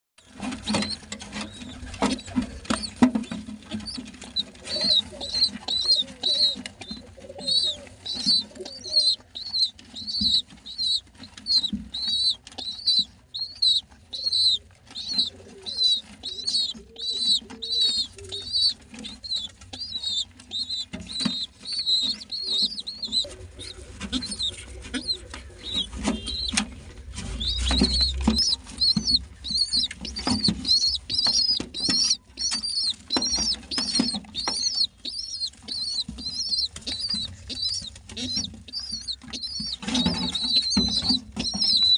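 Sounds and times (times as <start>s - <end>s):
squabs squeaky begging calls: 0.6s - 41.9s.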